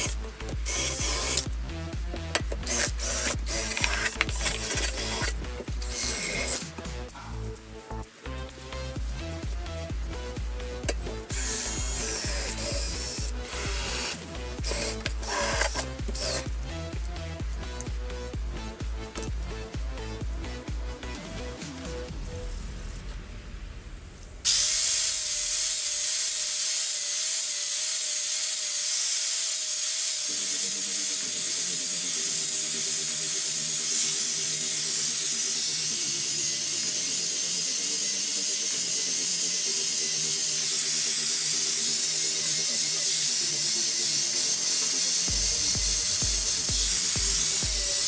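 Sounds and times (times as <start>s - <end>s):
loud steady hiss: 0.0s - 16.4s, 22.1s - 48.0s
background music: 0.0s - 25.5s, 31.3s - 48.0s.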